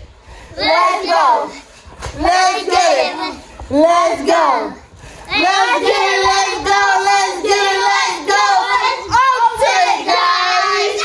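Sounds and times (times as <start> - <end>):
woman and girl singing: 0.6 - 11.0.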